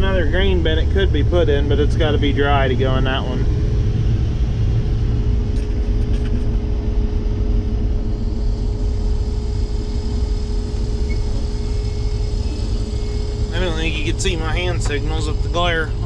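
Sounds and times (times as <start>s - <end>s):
harvester engine rumbling: 0.0s - 16.0s.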